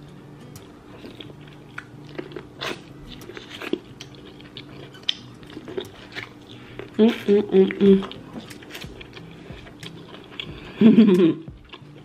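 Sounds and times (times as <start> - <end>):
faint steady hum: 0.0 - 12.0
person chewing food: 0.6 - 7.0, 7.6 - 12.0.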